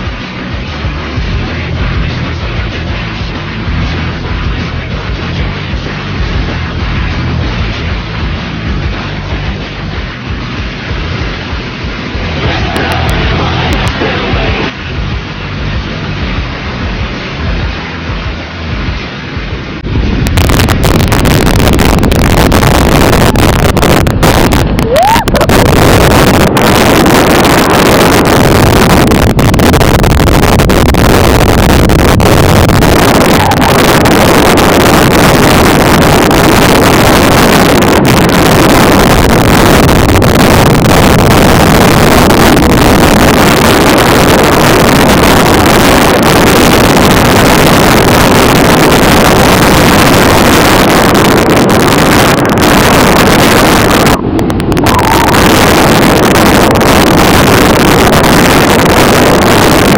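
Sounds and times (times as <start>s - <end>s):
wind roar buffeting microphone: 0.0s - 59.9s.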